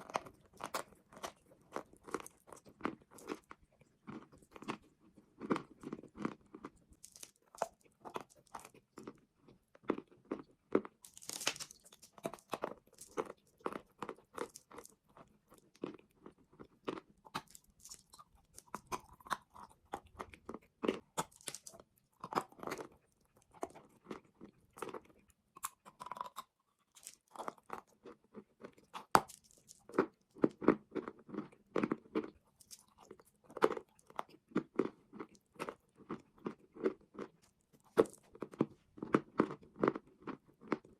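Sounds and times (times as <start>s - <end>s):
chewing chalk crunches: 0.0s - 40.9s.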